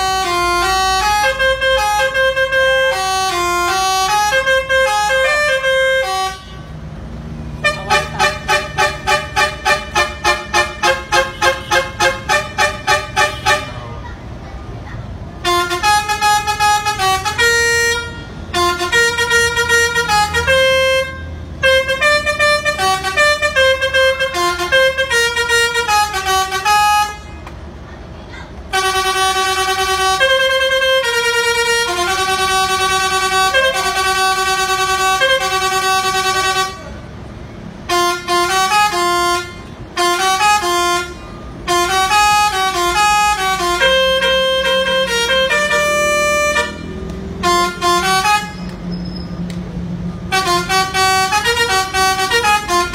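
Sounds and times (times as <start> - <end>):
musical truck horn tune: 0.0 - 14.0, 15.4 - 27.4, 28.7 - 49.4, 50.1 - 52.9
low engine rumble: 0.0 - 52.9.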